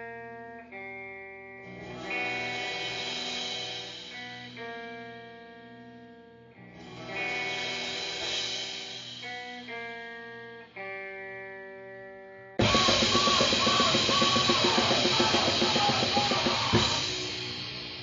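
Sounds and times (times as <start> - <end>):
ringing guitar notes: 0.0 - 18.0
distorted guitar drums and noise: 1.4 - 5.9, 6.6 - 11.8, 12.6 - 18.0.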